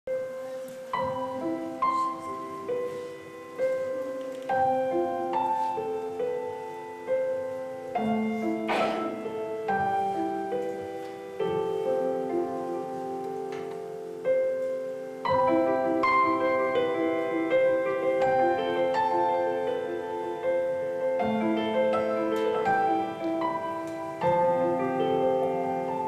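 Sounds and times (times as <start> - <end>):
slow piano music: 0.1 - 26.0.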